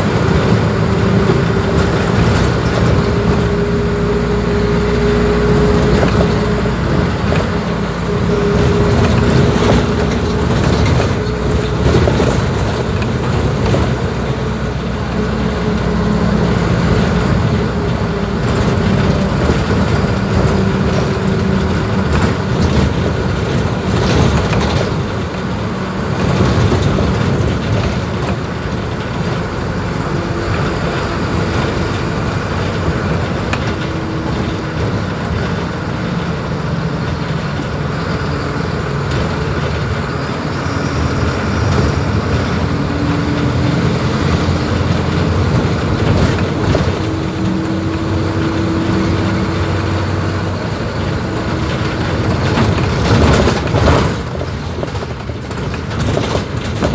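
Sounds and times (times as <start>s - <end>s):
bus diesel engine running: 0.0s - 56.9s
road noise: 0.0s - 56.9s.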